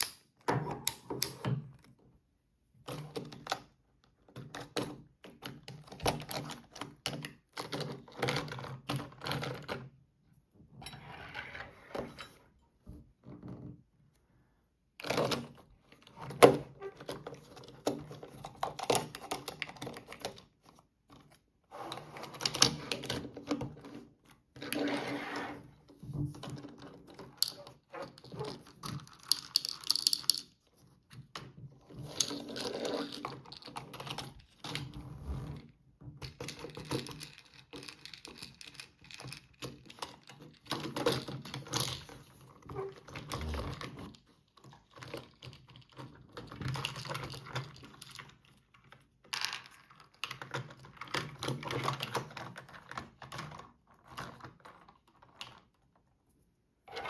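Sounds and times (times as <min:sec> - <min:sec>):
plastic parts clicking and rattling: 0:02.8 - 0:10.0, 0:15.0 - 0:24.8, 0:26.1 - 0:35.0, 0:35.6 - 0:56.1.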